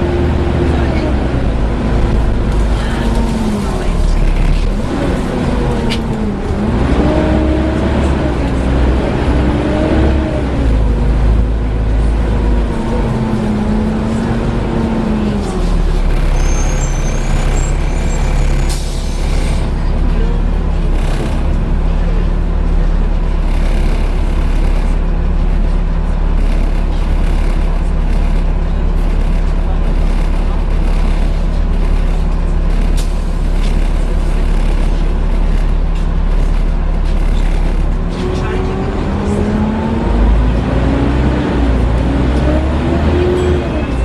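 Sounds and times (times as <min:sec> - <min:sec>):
bus diesel engine drone: 0:00.0 - 0:44.0.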